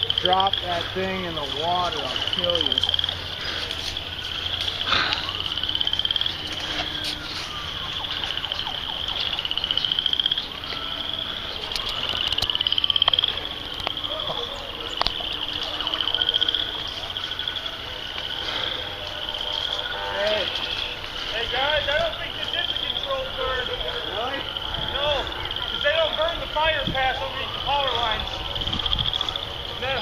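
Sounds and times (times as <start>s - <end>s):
animals calling with buzzy trills: 0.0s - 30.0s.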